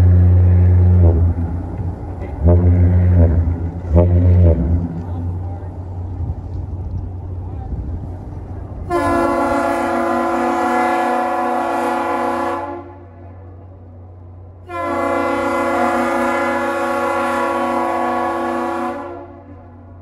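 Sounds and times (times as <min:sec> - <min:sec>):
ship horn blasts: 0:00.0 - 0:06.0, 0:08.8 - 0:13.5, 0:14.6 - 0:20.0.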